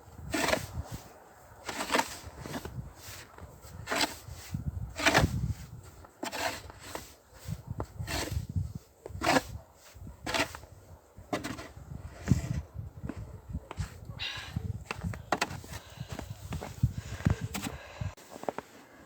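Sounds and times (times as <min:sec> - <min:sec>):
snow shovel scraping snow: 0:00.2 - 0:10.7, 0:11.3 - 0:12.6, 0:14.9 - 0:19.0.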